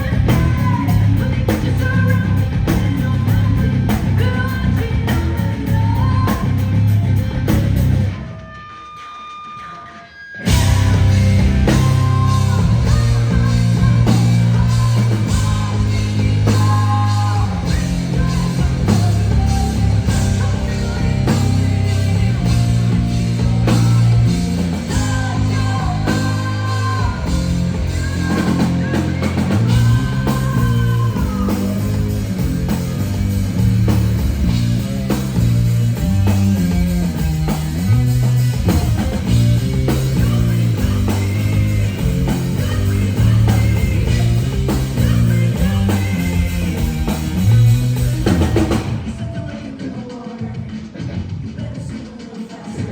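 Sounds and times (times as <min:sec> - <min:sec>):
bass line: 0:00.0 - 0:08.3, 0:10.4 - 0:49.4
electric guitar: 0:00.0 - 0:08.7, 0:09.4 - 0:49.2
drum kit: 0:00.0 - 0:52.9.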